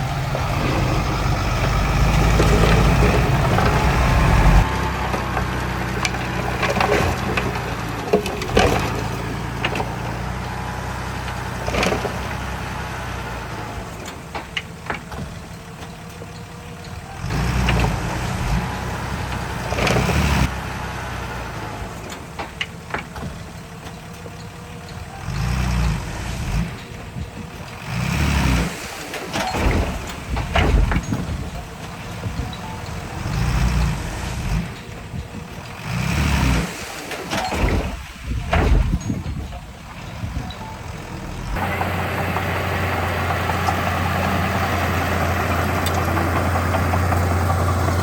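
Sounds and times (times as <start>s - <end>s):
heavy machinery engine surging: 0.0s - 48.0s
metal clanks: 0.0s - 48.0s.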